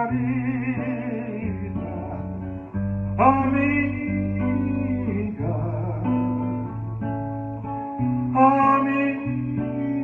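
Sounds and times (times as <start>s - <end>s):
acoustic guitar picking chords: 0.0s - 10.0s
steady bass: 0.0s - 10.0s.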